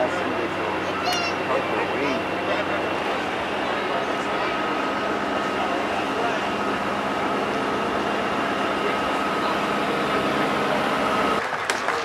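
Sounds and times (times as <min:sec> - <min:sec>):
mechanical drone: 0:00.0 - 0:11.4.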